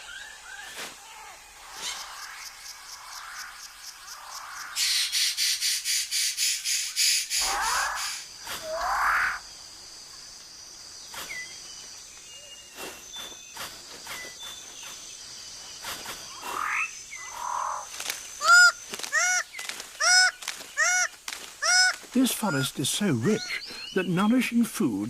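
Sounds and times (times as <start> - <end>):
loud sweeping bird calls: 0.0 - 24.6
high insect drone: 0.0 - 25.0.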